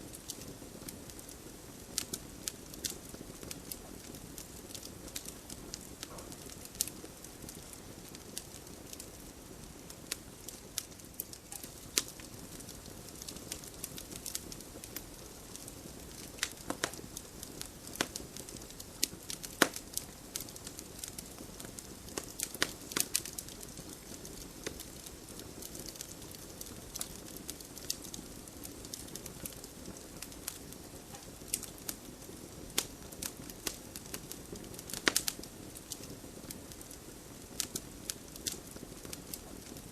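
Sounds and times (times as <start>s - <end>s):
campfire crackling and popping: 0.0s - 39.9s
low hiss of burning: 0.0s - 39.9s.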